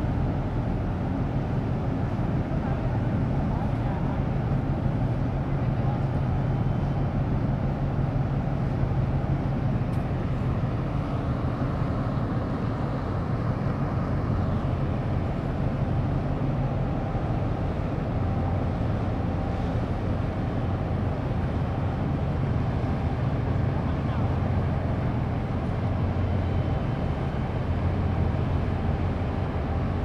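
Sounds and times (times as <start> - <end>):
ship engines droning: 0.0 - 30.0.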